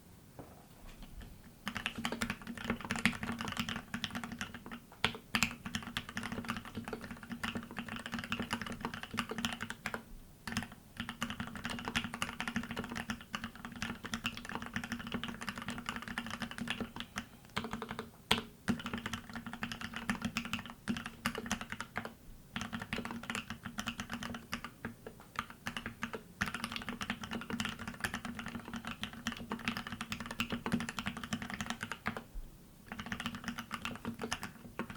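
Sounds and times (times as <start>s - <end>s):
fast mechanical keyboard typing: 1.6s - 32.3s, 32.9s - 34.9s.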